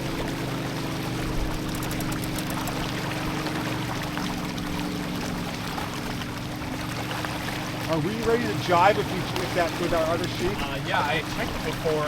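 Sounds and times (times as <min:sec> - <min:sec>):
water splashing along a hull: 0:00.0 - 0:12.0.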